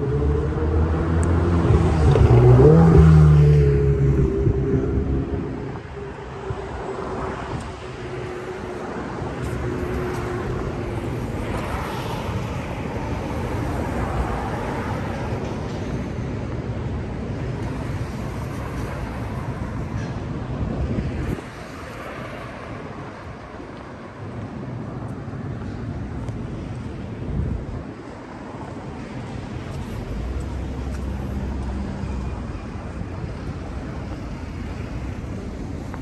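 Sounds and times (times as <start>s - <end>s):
rumble of passing vehicles: 0.0s - 36.0s.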